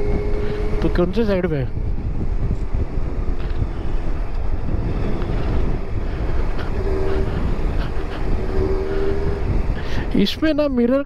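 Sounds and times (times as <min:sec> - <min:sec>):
motorcycle engine: 0:00.0 - 0:10.2
wind rushing over helmet microphone: 0:00.0 - 0:11.0.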